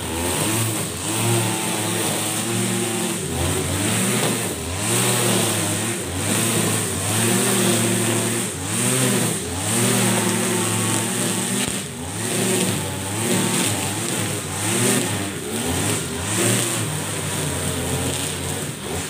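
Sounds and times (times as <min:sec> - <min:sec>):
brush cutter running: 0:00.0 - 0:19.0.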